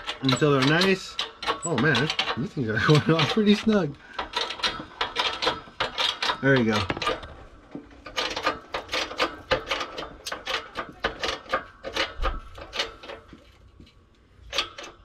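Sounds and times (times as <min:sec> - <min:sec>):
hydraulic press clicking: 0:00.0 - 0:13.6, 0:14.5 - 0:15.0.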